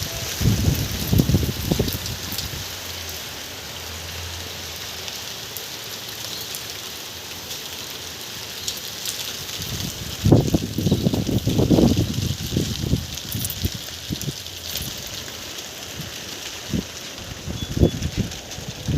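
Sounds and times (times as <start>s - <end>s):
steady rain hiss: 0.0s - 18.9s.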